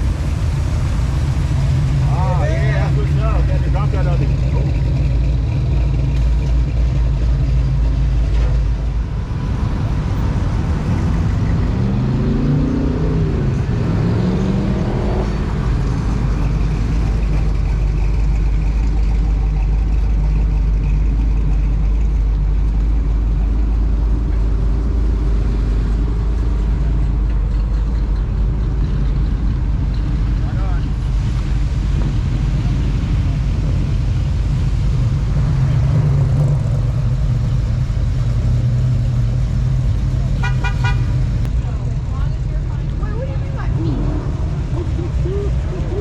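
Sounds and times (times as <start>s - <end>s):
car engine humming: 0.0s - 46.0s.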